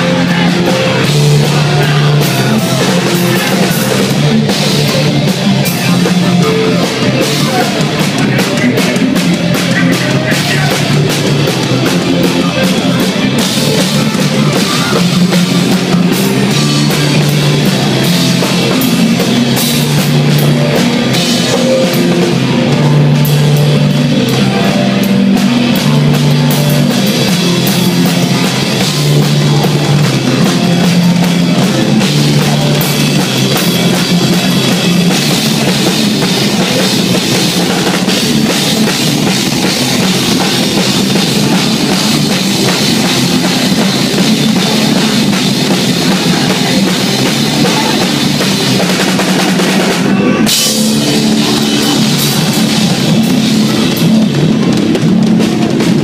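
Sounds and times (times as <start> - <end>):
hard-hit drums: 0.0 - 56.0
held guitar chords: 0.0 - 56.0.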